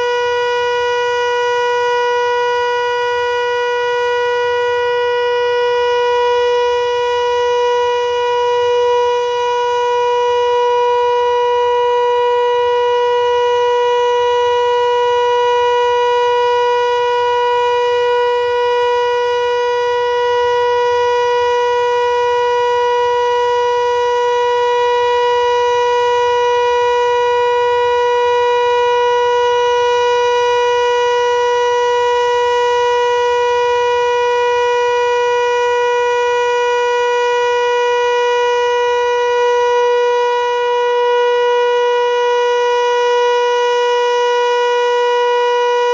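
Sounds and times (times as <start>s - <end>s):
siren steady tone: 0.0s - 45.9s.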